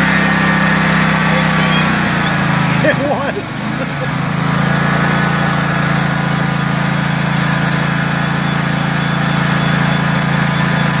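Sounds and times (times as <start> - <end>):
sawmill engine humming: 0.0 - 11.0.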